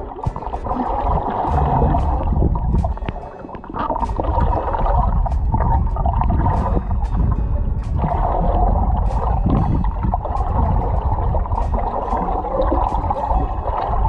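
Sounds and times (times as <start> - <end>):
muffled underwater water gurgling: 0.0 - 14.0.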